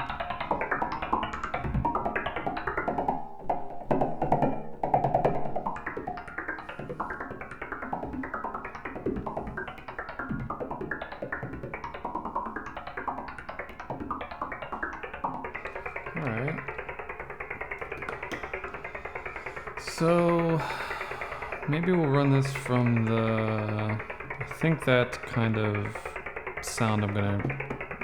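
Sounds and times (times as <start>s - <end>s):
synthesizer percussive pattern: 0.0s - 28.0s.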